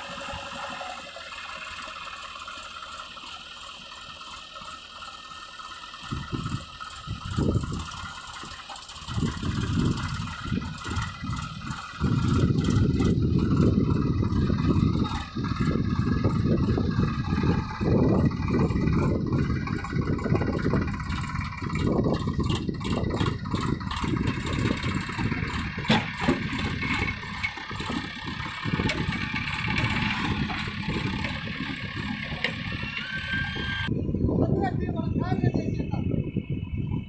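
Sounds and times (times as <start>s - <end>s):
diesel engines working under load: 0.0s - 37.0s.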